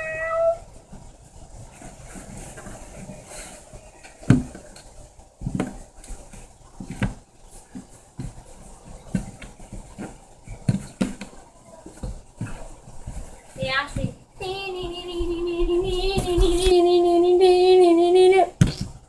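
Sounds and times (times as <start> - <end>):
rustling: 0.0 - 17.9.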